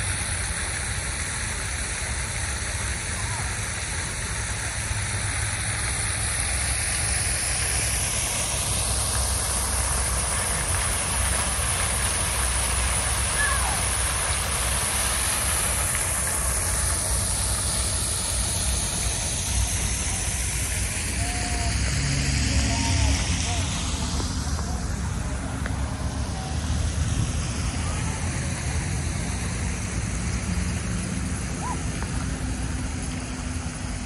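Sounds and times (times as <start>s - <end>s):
road traffic: 0.0s - 34.0s
running water: 0.0s - 34.0s.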